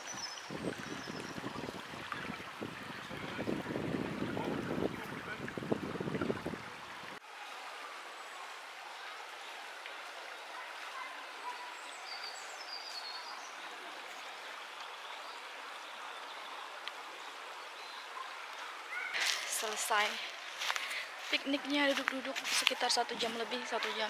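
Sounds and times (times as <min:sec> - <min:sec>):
stream babbling over stones: 0:00.0 - 0:24.0.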